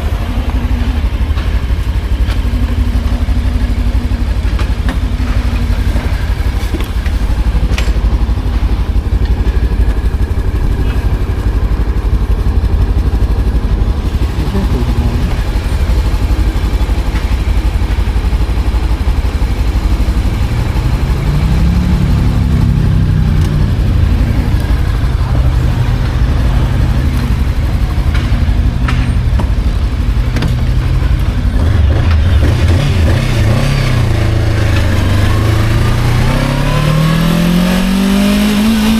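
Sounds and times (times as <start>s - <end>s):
motorcycle engine rumbling and revving: 0.0s - 38.9s.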